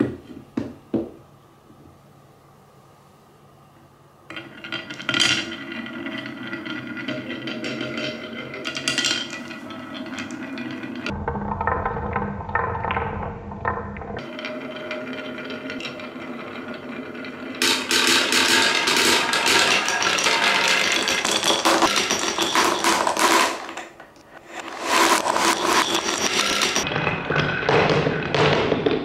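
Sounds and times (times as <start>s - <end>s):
balls dropping into wooden tray: 4.3s - 29.0s
marbles rolling and clattering: 4.3s - 29.0s.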